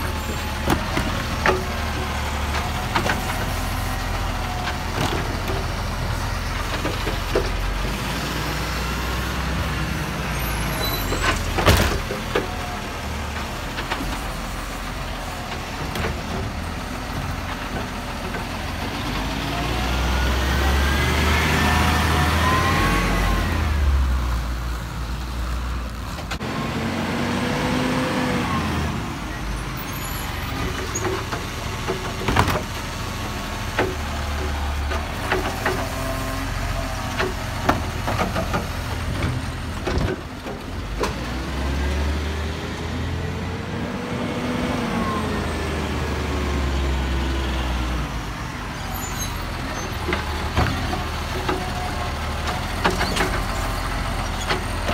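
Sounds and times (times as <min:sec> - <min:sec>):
garbage truck engine and hydraulics: 0:00.0 - 0:54.9.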